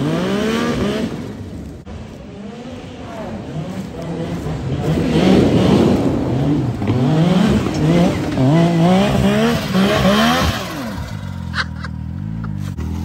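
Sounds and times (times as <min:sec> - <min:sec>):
engine revving: 0:00.0 - 0:01.7, 0:02.3 - 0:13.0.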